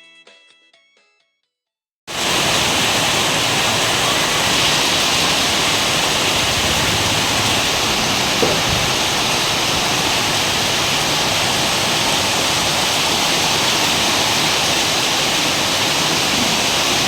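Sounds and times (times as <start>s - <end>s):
heavy rain pouring: 2.1s - 17.0s.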